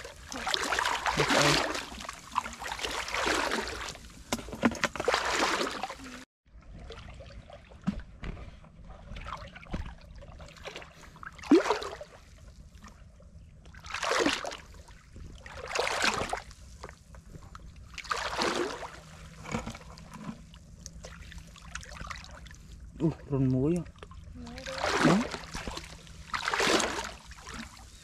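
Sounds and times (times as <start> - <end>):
water sloshing around legs: 0.0 - 13.0, 13.6 - 28.0.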